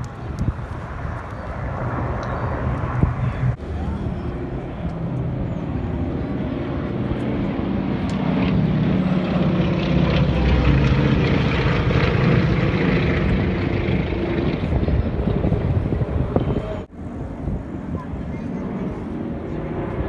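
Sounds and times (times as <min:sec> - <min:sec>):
propeller airplane engines droning: 0:00.0 - 0:20.0.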